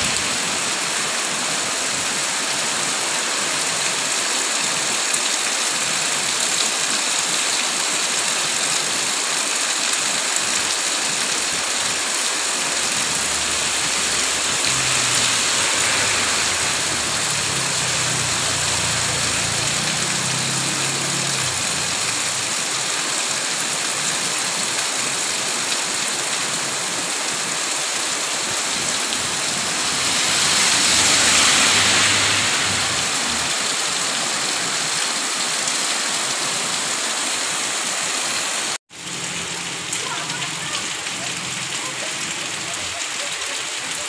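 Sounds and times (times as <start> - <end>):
heavy rain on wet street: 0.0 - 44.0.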